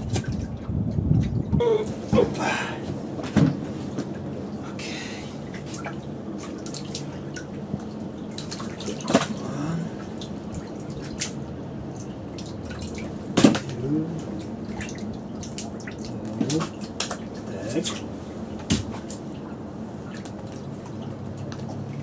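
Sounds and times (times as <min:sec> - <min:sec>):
water splashing and dripping: 0:00.0 - 0:02.5, 0:03.2 - 0:22.0.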